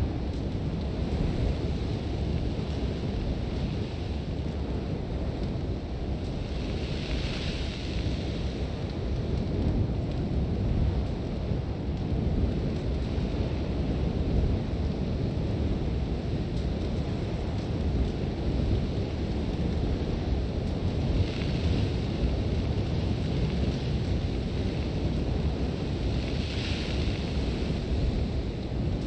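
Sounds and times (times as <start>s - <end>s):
sandstorm wind: 0.0s - 29.0s.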